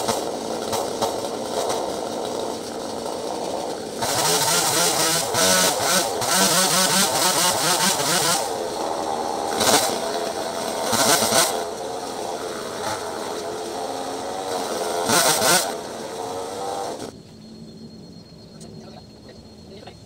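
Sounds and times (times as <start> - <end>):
chainsaw revving: 0.0 - 17.1.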